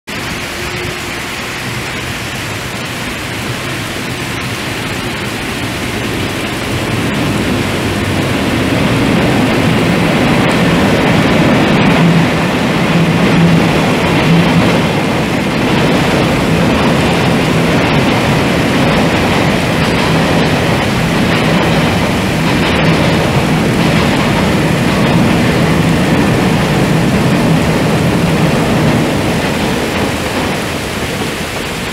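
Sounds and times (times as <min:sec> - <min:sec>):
locomotive low hum: 0:00.1 - 0:31.9
rumble of wheels on rail: 0:00.1 - 0:31.9.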